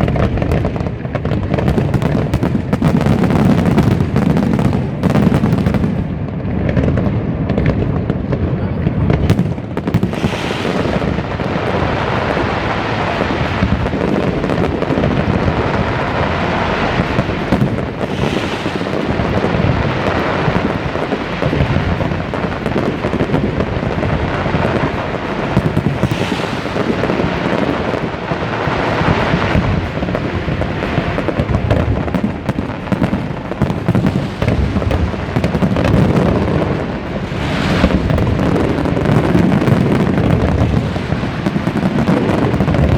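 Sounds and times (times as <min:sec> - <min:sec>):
fireworks barrage: 0:00.0 - 0:42.9
loud fireworks bangs: 0:00.0 - 0:42.9.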